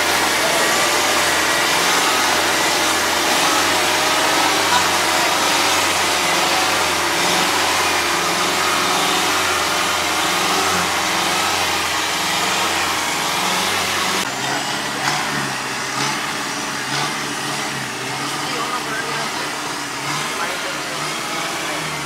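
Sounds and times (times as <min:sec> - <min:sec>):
heavy rushing noise: 0:00.0 - 0:22.0
vehicle engine running: 0:00.0 - 0:22.0.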